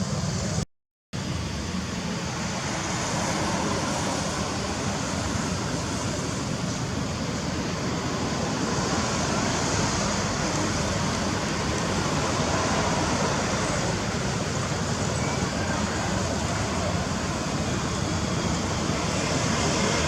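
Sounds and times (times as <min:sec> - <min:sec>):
steady rushing noise: 0:01.2 - 0:20.0.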